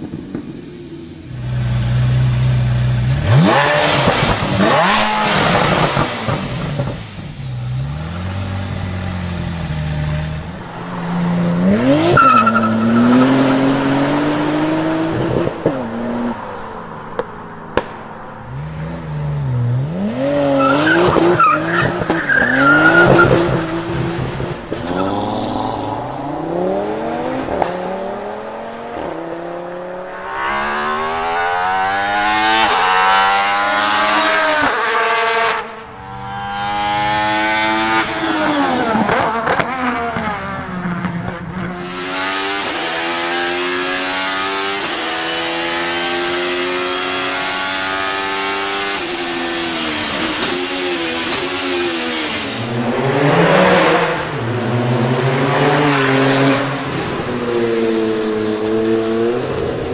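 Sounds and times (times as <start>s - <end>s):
car engine accelerating hard: 1.3s - 16.4s, 17.8s - 59.9s.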